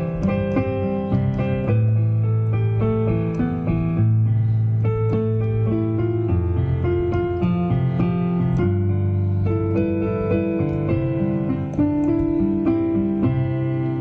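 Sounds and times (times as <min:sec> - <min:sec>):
digital piano melody: 0:00.0 - 0:14.0.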